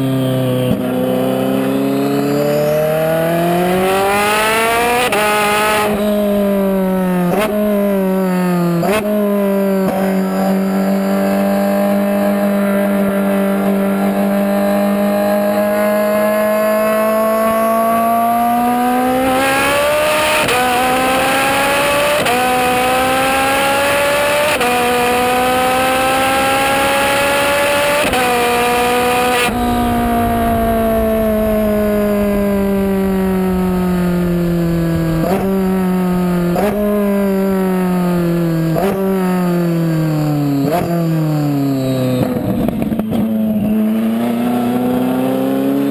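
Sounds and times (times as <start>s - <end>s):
engine throttle blips: 0.0s - 45.1s
car engine at full throttle: 0.0s - 45.9s.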